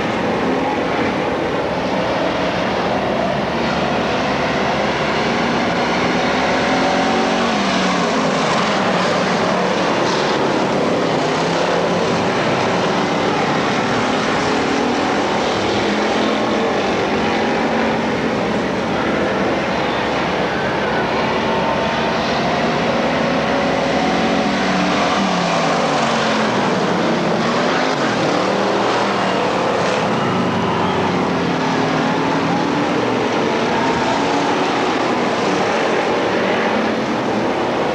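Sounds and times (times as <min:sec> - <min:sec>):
race car engines revving: 0:00.0 - 0:37.9.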